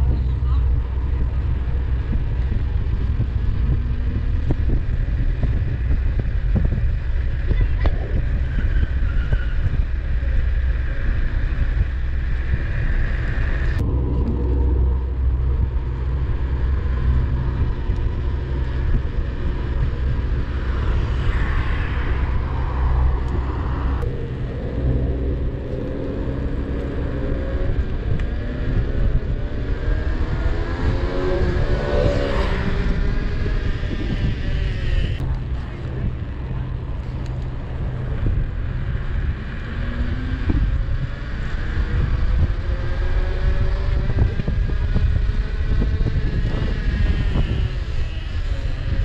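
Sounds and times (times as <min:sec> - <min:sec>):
wind and tyres on pavement: 0:00.0 - 0:49.0.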